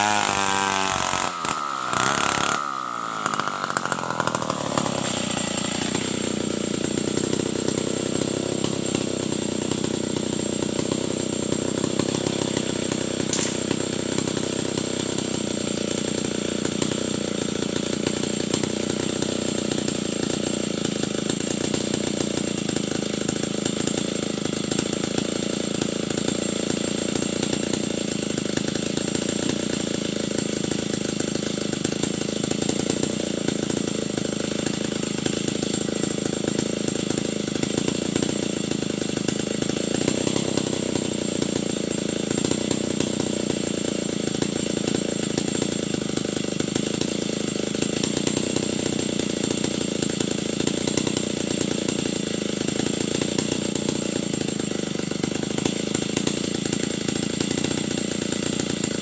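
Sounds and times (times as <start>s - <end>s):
chainsaw sawing timber: 0.0s - 59.0s.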